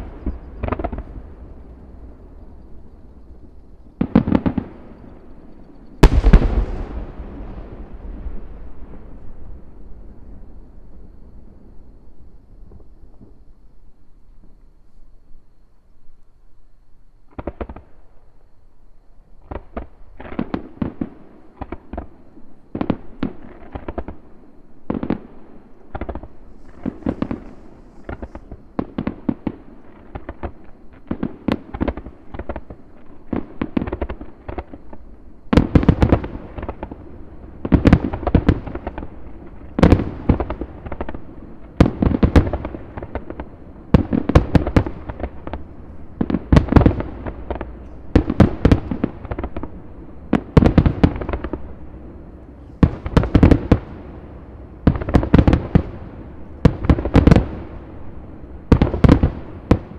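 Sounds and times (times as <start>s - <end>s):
fireworks booming: 0.0s - 13.5s, 17.3s - 18.0s, 19.4s - 59.9s.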